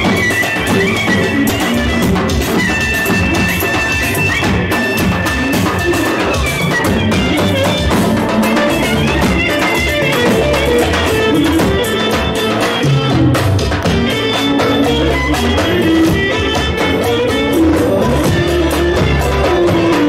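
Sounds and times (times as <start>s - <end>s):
music with steady drum beat: 0.0s - 20.0s.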